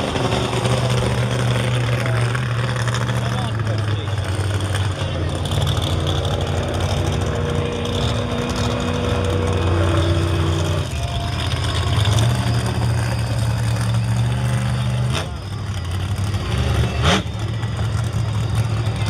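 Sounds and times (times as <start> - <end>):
truck engines idling: 0.0 - 19.0.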